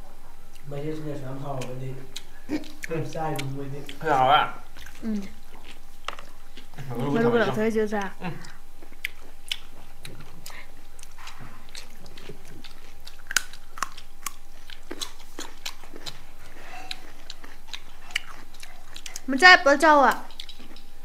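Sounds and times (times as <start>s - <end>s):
people chewing crunchy fruit: 0.0s - 21.0s.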